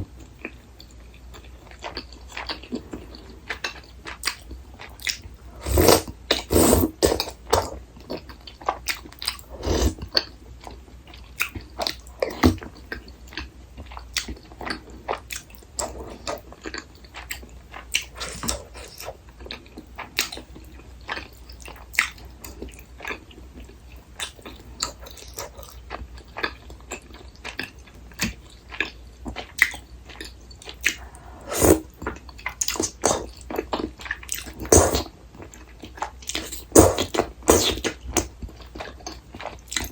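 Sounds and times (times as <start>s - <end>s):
close chewing and biting: 0.2s - 39.9s.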